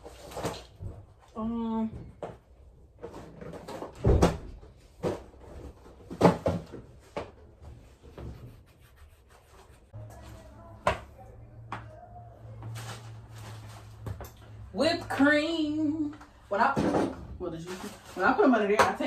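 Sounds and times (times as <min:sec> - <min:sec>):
items knocking and clunking: 0:00.0 - 0:08.4, 0:10.0 - 0:11.9, 0:12.5 - 0:19.0.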